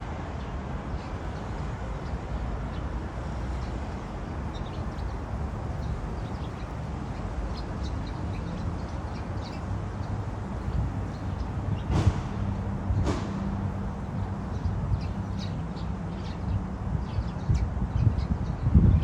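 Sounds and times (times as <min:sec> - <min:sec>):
low rumble of city traffic: 0:00.0 - 0:19.0
birds chirping: 0:00.4 - 0:19.0.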